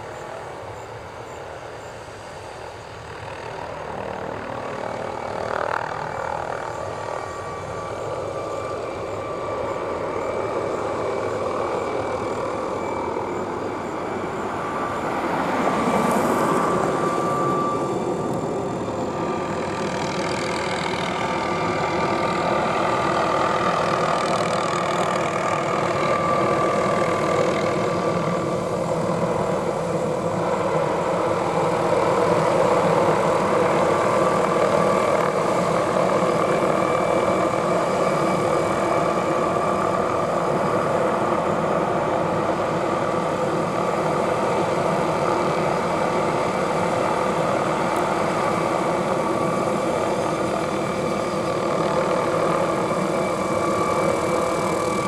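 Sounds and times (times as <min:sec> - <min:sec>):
helicopter rotor rush: 0:00.0 - 0:55.0
helicopter turbine whine: 0:00.0 - 0:55.0.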